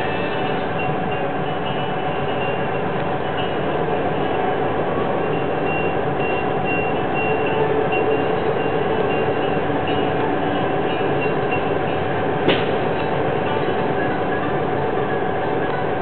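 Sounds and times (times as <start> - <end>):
freight train rumbling and clattering: 0.0 - 16.0.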